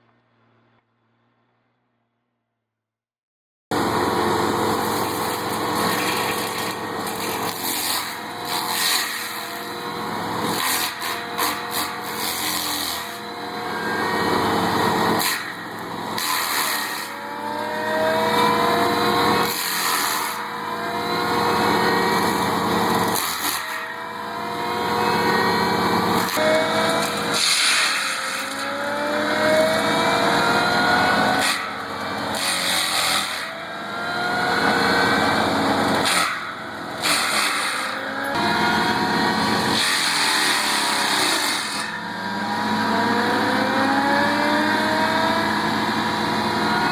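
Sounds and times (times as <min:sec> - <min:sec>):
engine revving: 0:03.7 - 0:46.9.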